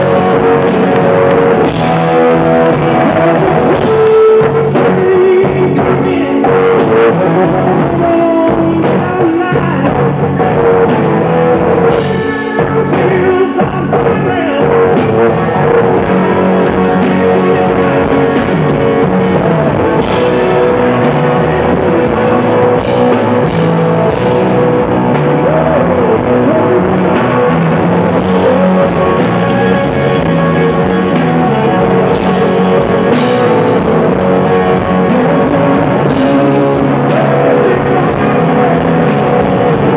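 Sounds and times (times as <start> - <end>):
bass guitar: 0.0 - 39.9
drums: 0.0 - 39.9
electric guitar: 0.0 - 39.9
man singing: 0.0 - 39.9.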